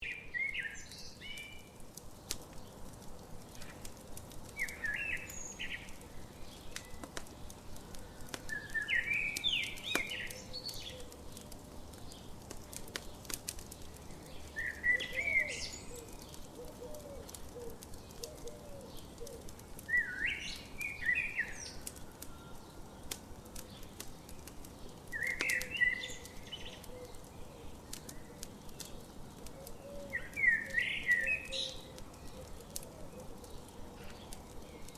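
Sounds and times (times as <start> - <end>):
campfire crackling: 0.0 - 34.9
low bird calls: 0.0 - 34.9
songbird chirping: 0.0 - 34.9.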